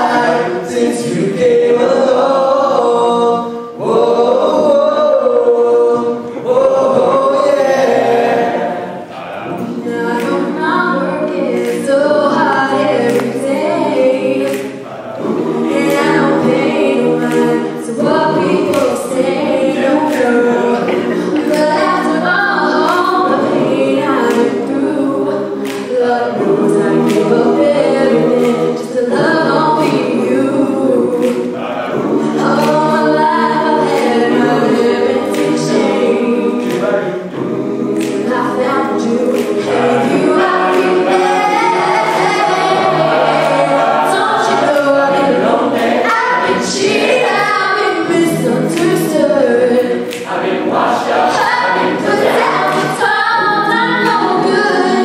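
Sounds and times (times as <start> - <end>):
backing vocal harmonies: 0.0 - 55.0
steady percussive beat: 5.9 - 55.0
female lead voice singing: 9.5 - 55.0.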